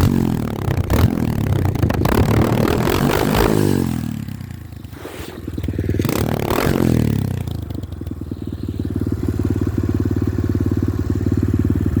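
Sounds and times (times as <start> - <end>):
small motorbike engine revving and idling: 0.0 - 12.0.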